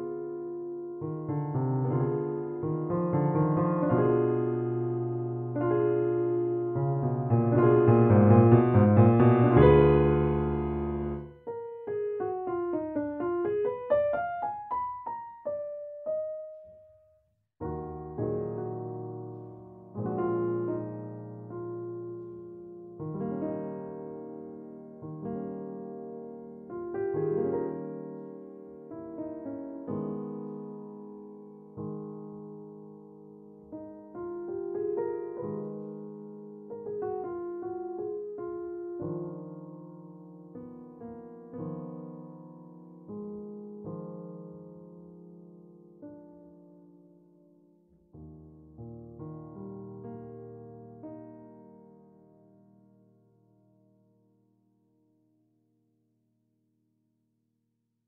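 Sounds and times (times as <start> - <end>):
piano melody: 0.0 - 54.6.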